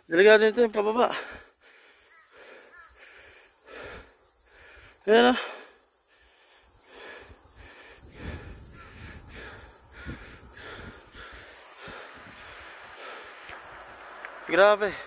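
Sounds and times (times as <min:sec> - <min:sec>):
insects hissing: 0:00.0 - 0:15.0
person breathing hard: 0:01.2 - 0:14.2.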